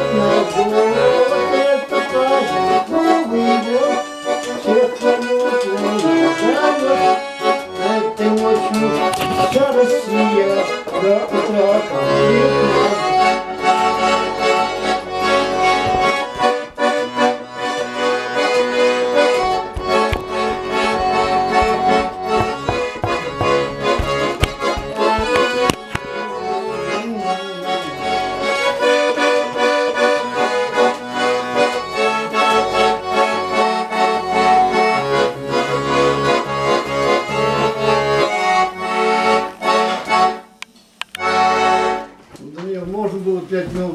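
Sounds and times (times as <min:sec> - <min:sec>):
instrumental music: 0:00.0 - 0:42.3.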